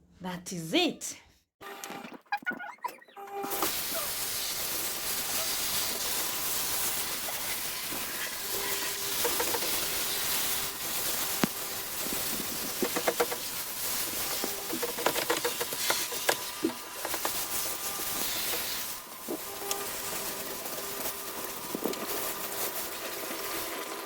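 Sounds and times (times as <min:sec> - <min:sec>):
steady hiss: 0:03.5 - 0:23.6.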